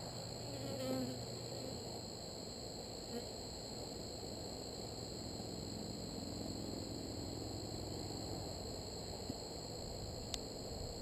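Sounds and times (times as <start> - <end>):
high-pitched insect trill: 0.0 - 11.0
honeybees humming: 0.0 - 11.0.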